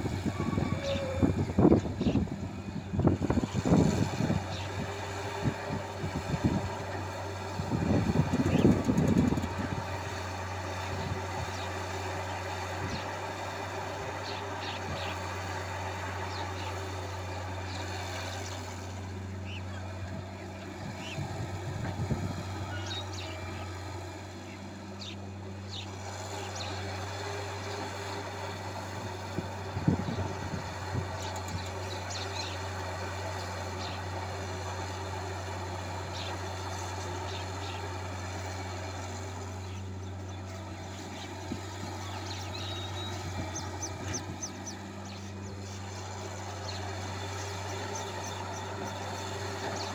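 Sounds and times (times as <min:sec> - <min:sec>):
excavator diesel engine drone: 0:00.0 - 0:49.9.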